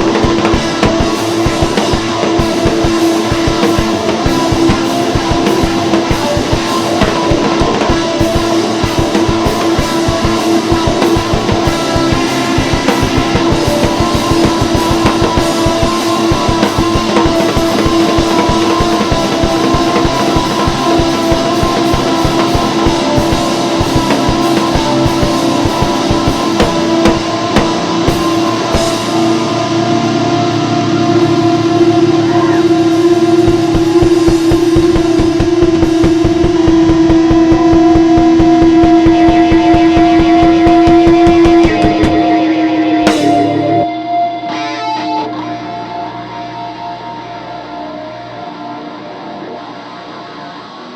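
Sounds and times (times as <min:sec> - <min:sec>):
fast rock drum kit: 0:00.0 - 0:46.9
distorted electric guitar droning: 0:00.0 - 0:50.9.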